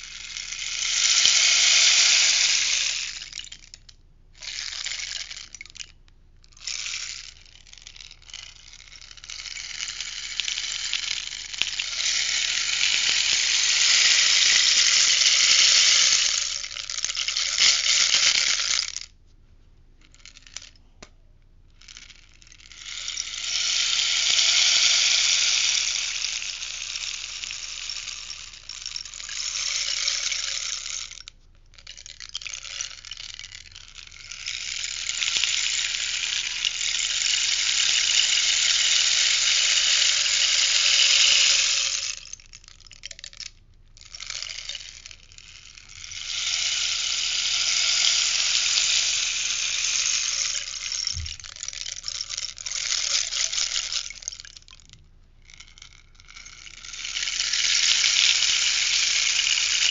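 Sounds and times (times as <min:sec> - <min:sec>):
rainstick trickling: 0:00.0 - 0:19.1, 0:20.0 - 0:20.9, 0:21.7 - 0:59.9.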